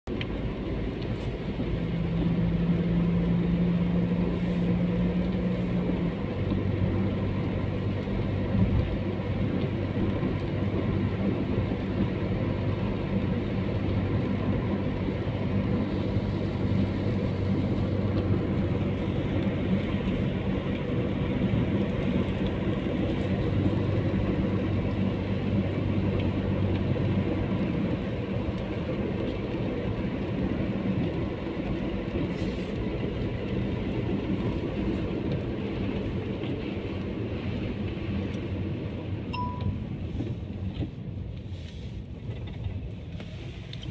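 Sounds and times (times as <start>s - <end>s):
car engine and tyre hum: 0.0s - 43.9s.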